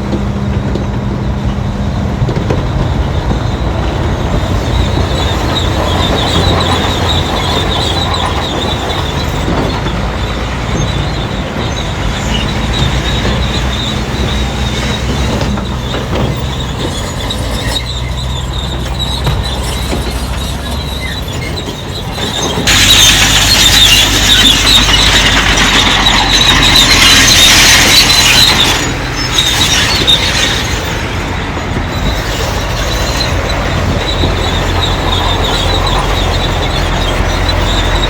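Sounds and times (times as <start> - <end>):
bulldozer diesel engine running: 0.0 - 38.0
steel tracks squealing: 0.0 - 38.0.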